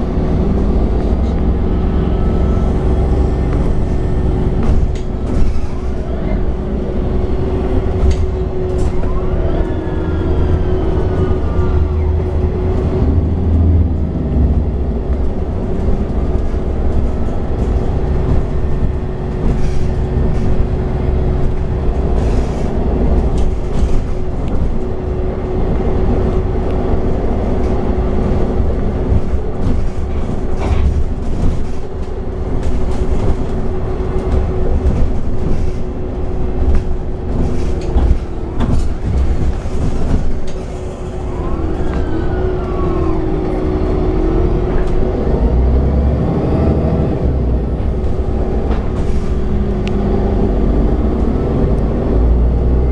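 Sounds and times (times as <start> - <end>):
bus engine running: 0.0 - 52.9.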